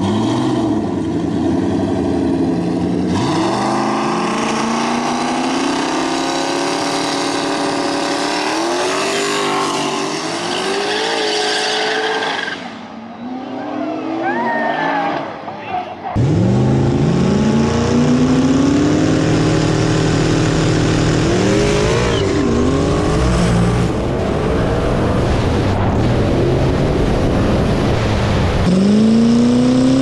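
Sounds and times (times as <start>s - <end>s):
car engines revving and accelerating: 0.0s - 30.0s.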